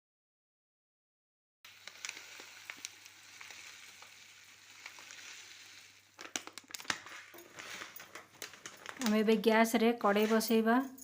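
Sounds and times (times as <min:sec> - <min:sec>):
steady hiss with crackles: 0:01.7 - 0:10.6.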